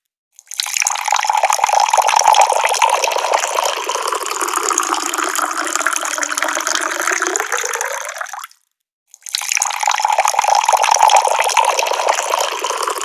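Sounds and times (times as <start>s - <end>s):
tap water pouring: 0.4s - 13.0s.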